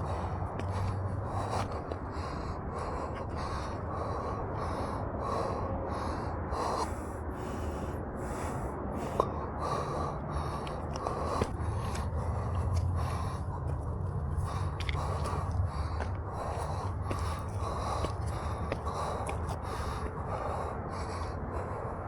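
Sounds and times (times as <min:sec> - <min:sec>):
runner breathing hard: 0:00.0 - 0:22.0.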